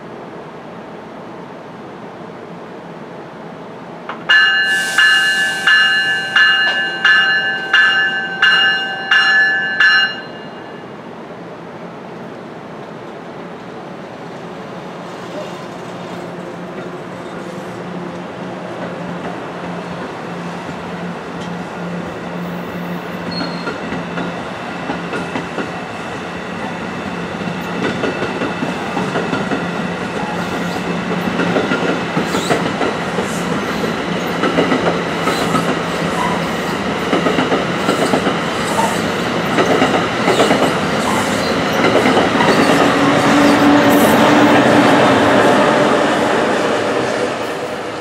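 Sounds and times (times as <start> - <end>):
train coaches rumbling over rails: 1.4 - 48.0.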